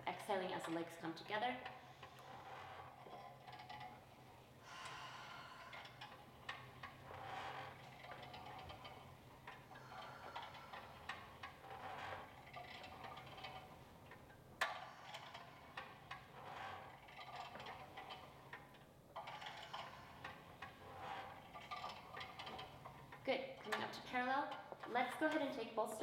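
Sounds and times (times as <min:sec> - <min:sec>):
exercise machine rattling and ticking: 0:00.0 - 0:26.0.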